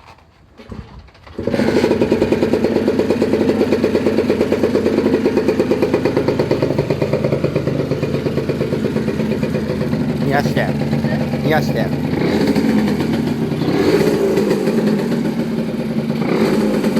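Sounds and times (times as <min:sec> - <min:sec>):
two-stroke engine starting and running: 0:00.5 - 0:16.9.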